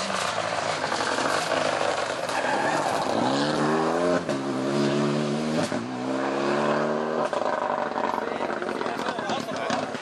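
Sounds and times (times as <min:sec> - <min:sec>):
car engine accelerating hard: 0:00.0 - 0:09.9.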